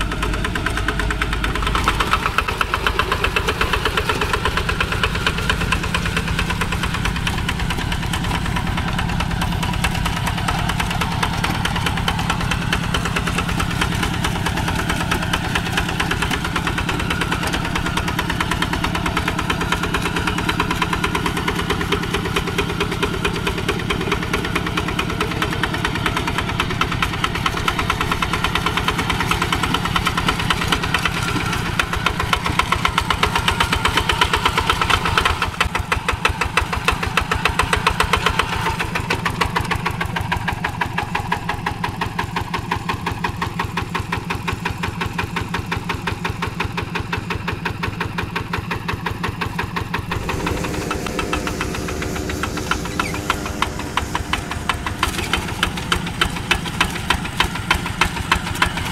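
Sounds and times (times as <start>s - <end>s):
diesel engine chugging: 0.0s - 58.9s.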